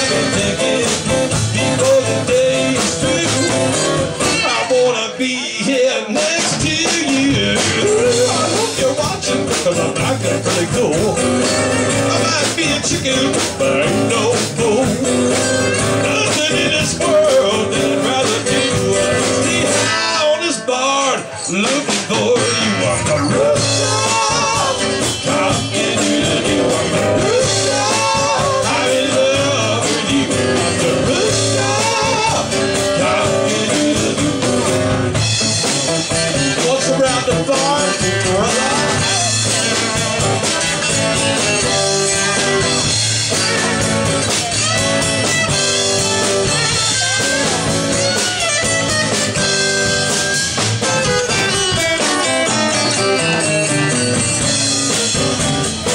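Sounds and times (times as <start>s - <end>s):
electric bass: 0.0s - 5.1s, 6.4s - 20.5s, 21.9s - 55.9s
person singing: 0.0s - 50.2s
drums: 0.0s - 55.9s
strummed acoustic guitars: 0.0s - 55.9s.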